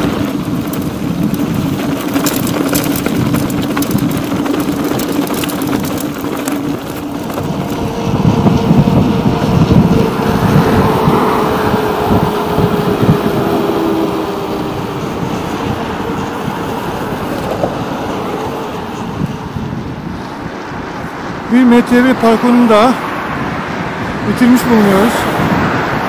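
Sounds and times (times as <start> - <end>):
low traffic rumble: 0.0 - 26.0
vehicle passing: 0.0 - 26.0.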